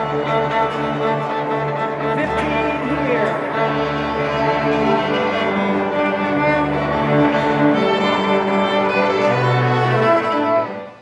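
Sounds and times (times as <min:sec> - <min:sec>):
string orchestra sustained notes: 0:00.0 - 0:11.0.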